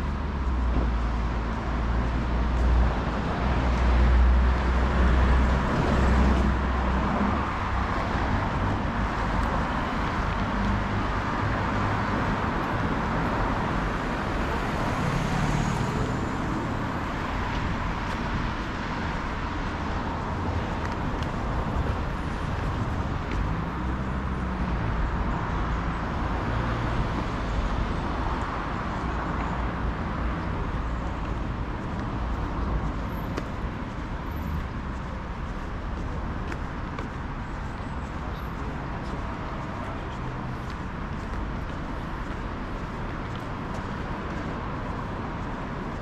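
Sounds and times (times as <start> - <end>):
road traffic with passing cars: 0.0 - 46.0.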